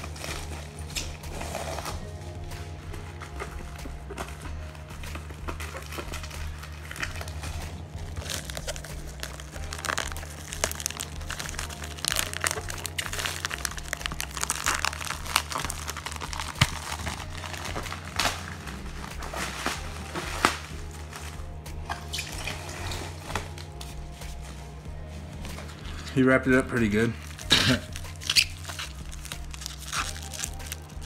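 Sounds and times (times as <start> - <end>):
packaging crinkling: 0.0 - 26.2, 27.1 - 31.0
background music: 0.0 - 31.0.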